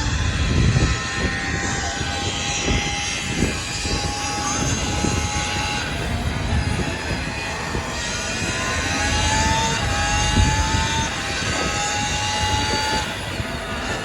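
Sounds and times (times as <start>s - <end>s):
vehicle engine whining: 0.0s - 14.0s.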